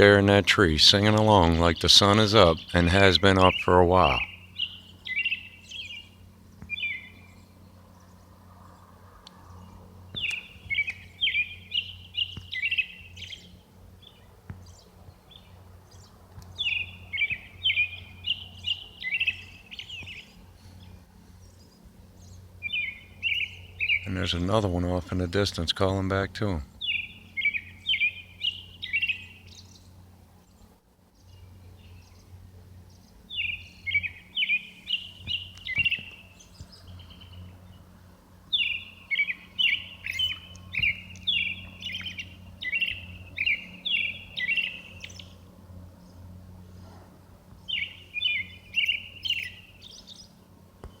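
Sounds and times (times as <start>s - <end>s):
robin singing: 0.0s - 46.7s, 47.5s - 51.0s
steady low hum: 0.0s - 51.0s.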